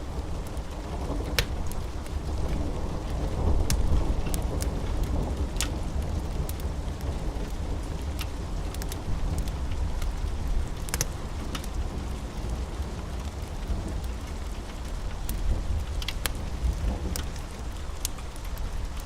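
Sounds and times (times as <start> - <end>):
steady rain: 0.0 - 19.0
wood fire crackling and popping: 0.1 - 19.0.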